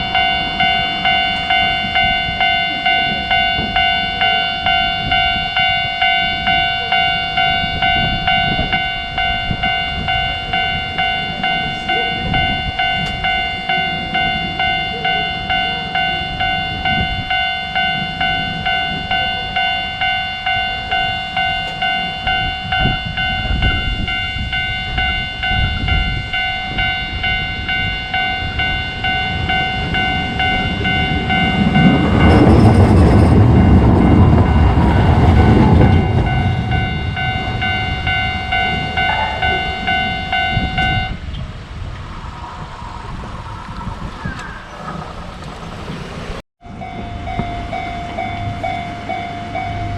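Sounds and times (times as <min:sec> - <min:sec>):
level crossing alarm bell ringing: 0:00.0 - 0:41.2, 0:46.6 - 0:49.9
streetcar running noise: 0:00.0 - 0:49.9.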